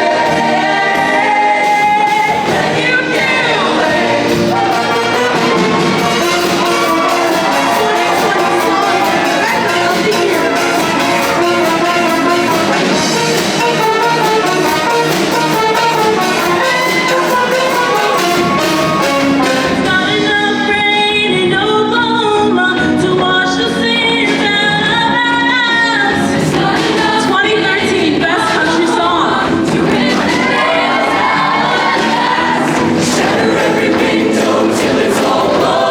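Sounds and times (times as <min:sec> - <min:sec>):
choir singing: 0:00.0 - 0:20.2, 0:26.1 - 0:35.9
instrumental accompaniment: 0:00.0 - 0:21.6, 0:26.0 - 0:35.9.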